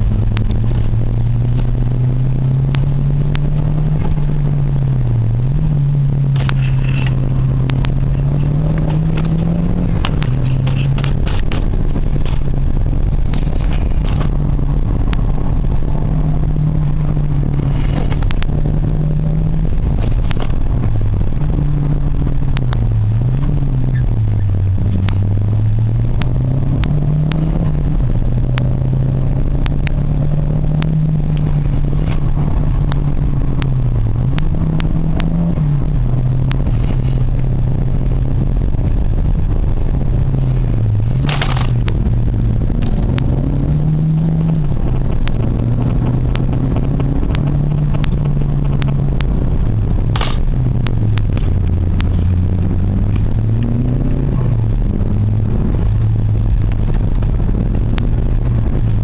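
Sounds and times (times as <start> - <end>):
car engine revving: 0.0 - 59.0
sharp clicks and rattles: 0.0 - 59.0.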